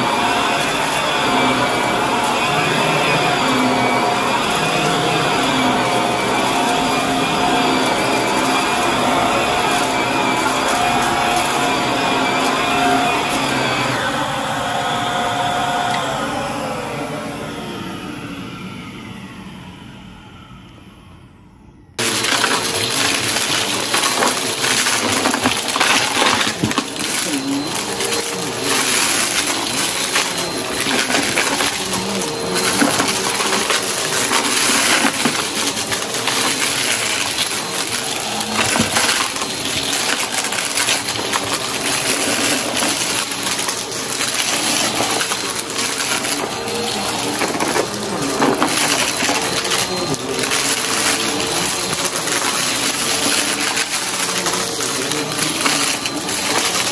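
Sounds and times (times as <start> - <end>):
debris rattling through vacuum: 0.0 - 16.0, 22.0 - 56.9
vacuum cleaner suction: 0.0 - 19.9, 22.0 - 56.9
faint motor whine: 0.0 - 56.9.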